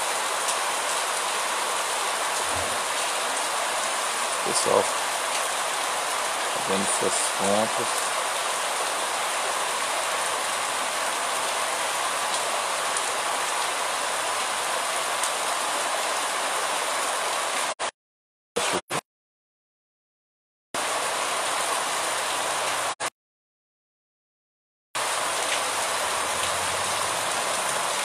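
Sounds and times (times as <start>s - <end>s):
steady rain on pavement and leaves: 0.0s - 17.8s, 20.8s - 23.0s, 25.0s - 28.0s.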